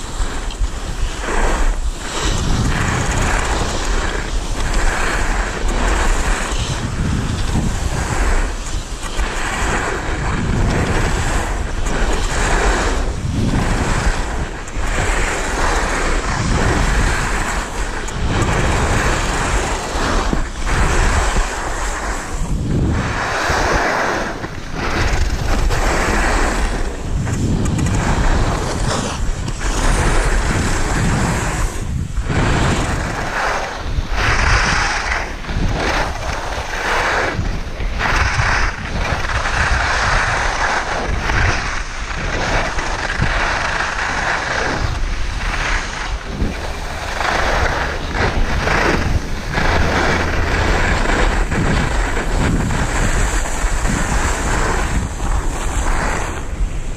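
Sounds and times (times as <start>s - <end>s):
skis scraping on packed snow: 0.0s - 56.9s
wind buffeting microphone: 0.0s - 56.9s.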